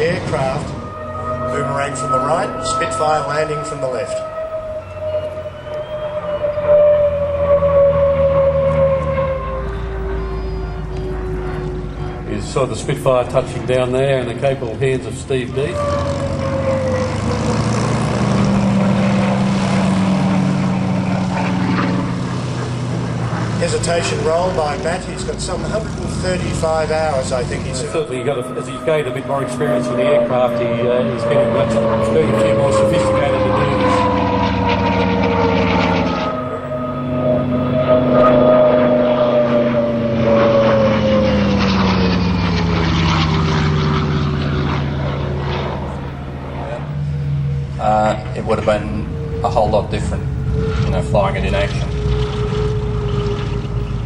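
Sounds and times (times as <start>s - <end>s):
piston aircraft engine droning: 0.0s - 54.0s
propeller plane flying past: 0.0s - 54.0s.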